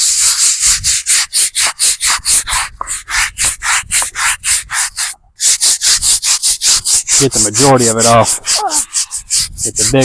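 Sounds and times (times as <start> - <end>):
brush scrubbing stone: 0.0 - 10.0.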